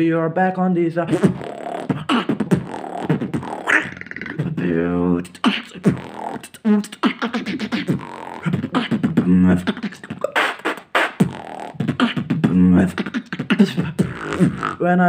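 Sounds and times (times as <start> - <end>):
beatboxing mouth percussion: 1.0 - 15.0.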